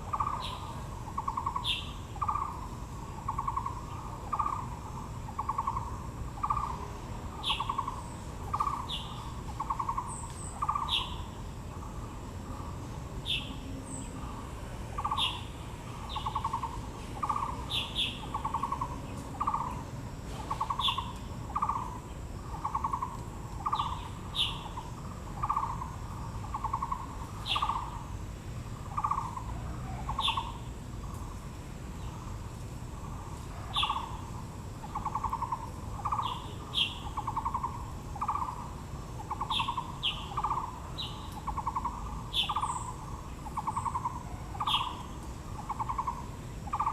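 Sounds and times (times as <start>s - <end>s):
low bird hooting: 0.0s - 28.1s, 28.8s - 30.7s, 33.0s - 46.9s.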